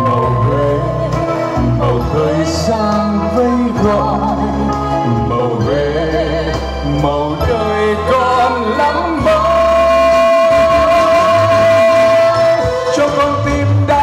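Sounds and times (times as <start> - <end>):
live band music with singer: 0.0 - 14.0.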